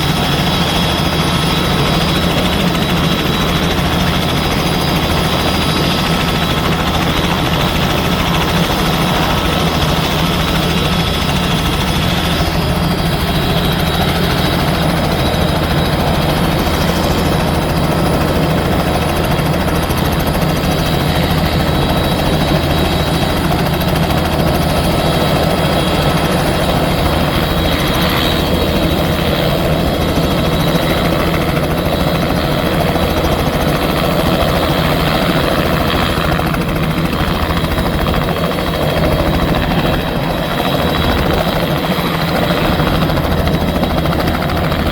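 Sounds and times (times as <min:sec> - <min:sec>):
helicopter rotor beat: 0:00.0 - 0:44.9.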